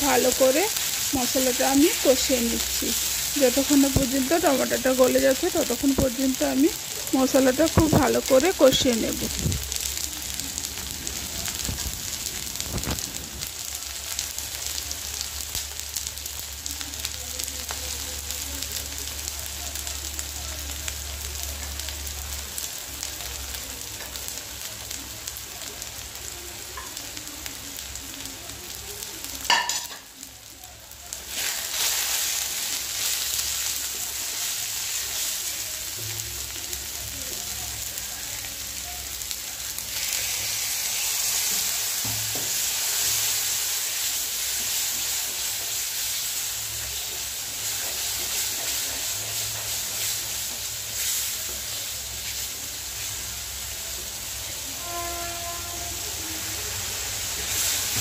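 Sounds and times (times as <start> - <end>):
masala sizzling in oil: 0.0 - 58.0.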